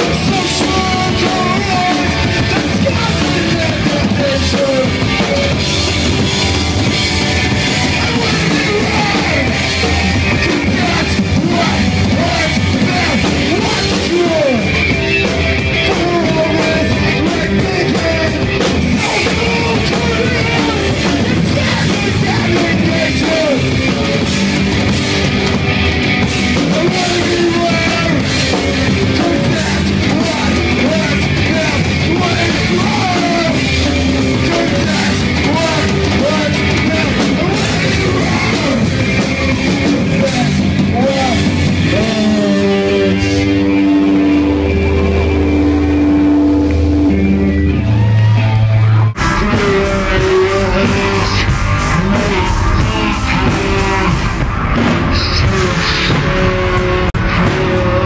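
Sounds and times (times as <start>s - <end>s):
shouted vocals: 0.0s - 5.8s, 7.4s - 25.0s, 26.5s - 46.3s, 47.2s - 58.0s
fast drums and crashing cymbals: 0.0s - 46.4s, 49.2s - 58.0s
distorted electric guitars: 0.0s - 58.0s.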